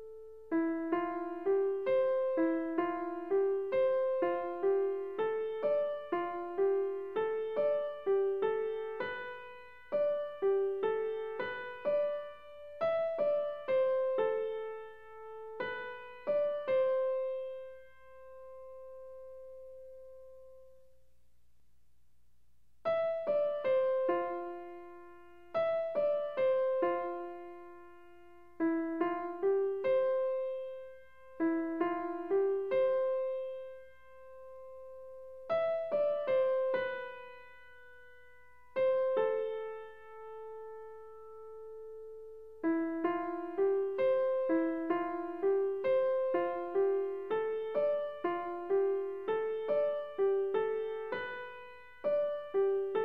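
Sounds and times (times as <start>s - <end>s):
gentle piano melody: 0.0s - 20.9s, 22.9s - 53.0s.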